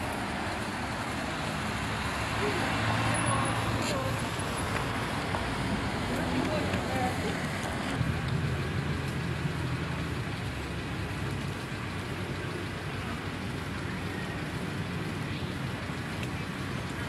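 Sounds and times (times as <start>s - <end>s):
street traffic noise: 0.0s - 17.0s
vehicle engine running: 0.0s - 17.0s.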